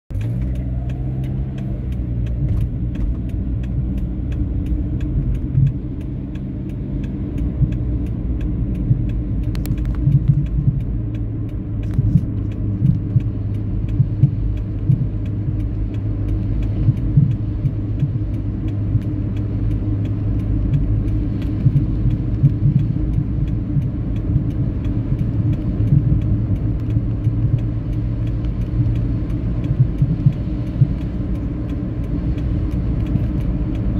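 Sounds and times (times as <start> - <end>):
car engine and road rumble: 0.1 - 33.9.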